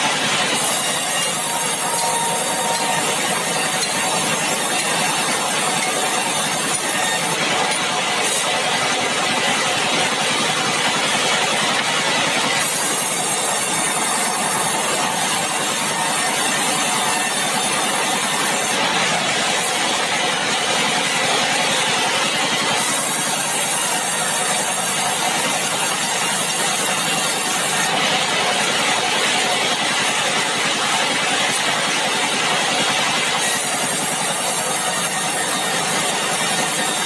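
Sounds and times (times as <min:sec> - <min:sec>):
sawmill machinery running: 0:00.0 - 0:37.0.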